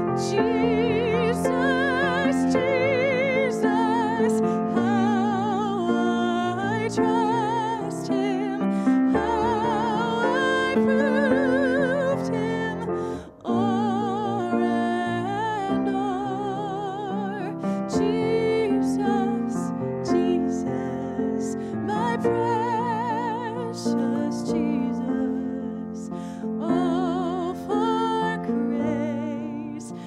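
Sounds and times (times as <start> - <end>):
grand piano: 0.0 - 30.0
woman singing a hymn: 0.0 - 30.0.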